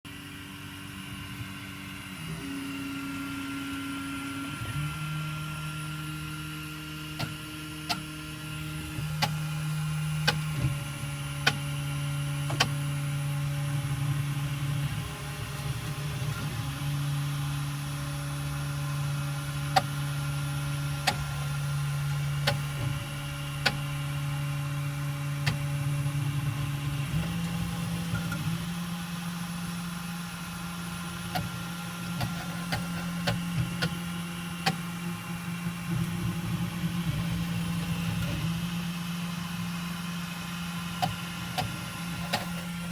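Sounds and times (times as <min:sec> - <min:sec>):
stepper motors humming: 0:00.1 - 0:42.9
extruder motor clicking: 0:01.1 - 0:42.9.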